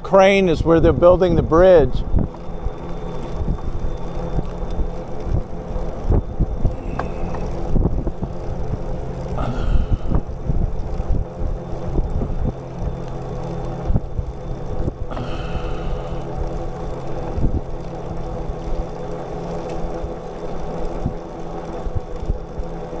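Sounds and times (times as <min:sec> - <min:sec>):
steady low drone: 0:00.0 - 0:23.0
bicycle frame rattling: 0:01.1 - 0:23.0.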